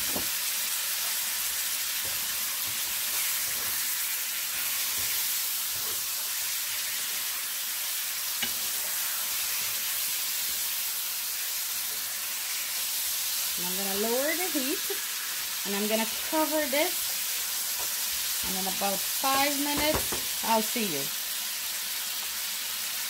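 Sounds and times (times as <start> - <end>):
fruit sizzling in hot oil: 0.0 - 23.0.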